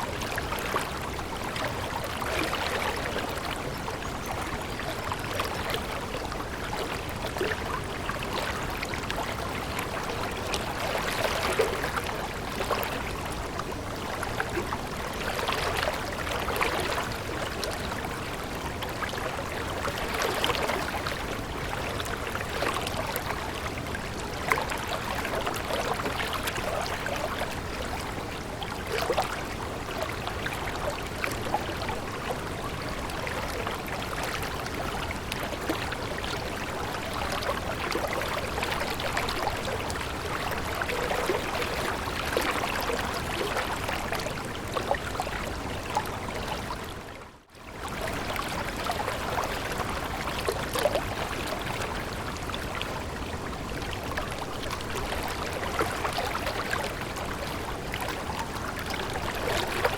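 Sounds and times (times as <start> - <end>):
small water splashes: 0.0 - 59.9
stream water babbling: 0.0 - 59.9.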